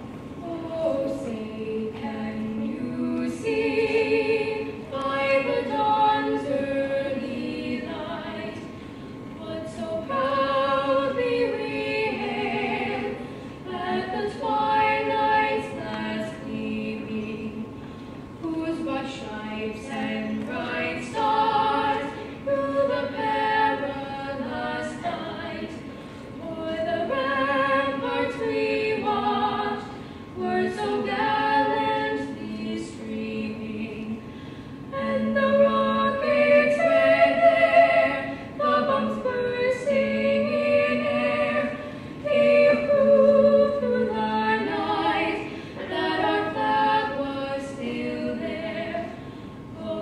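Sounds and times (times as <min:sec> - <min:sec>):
choir singing an anthem: 0:00.4 - 0:08.7, 0:09.4 - 0:17.6, 0:18.4 - 0:34.2, 0:34.9 - 0:49.2, 0:49.8 - 0:50.0.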